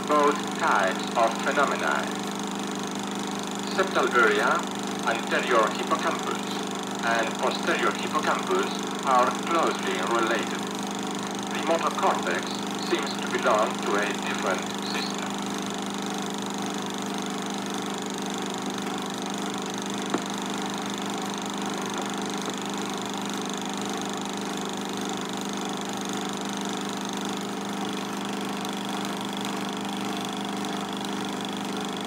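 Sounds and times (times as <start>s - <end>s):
film projector whirring: 0.0s - 32.0s.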